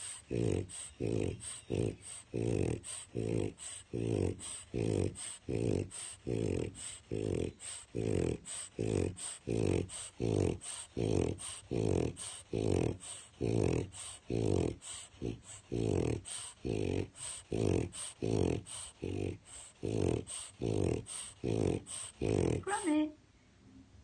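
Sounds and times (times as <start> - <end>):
dog snoring loudly: 0.0 - 23.0.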